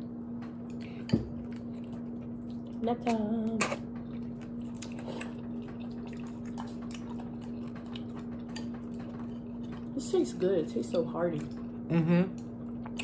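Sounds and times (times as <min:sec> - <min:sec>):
steady low hum: 0:00.0 - 0:13.0
quiet chewing: 0:00.4 - 0:13.0
wet noodle sounds: 0:00.6 - 0:13.0.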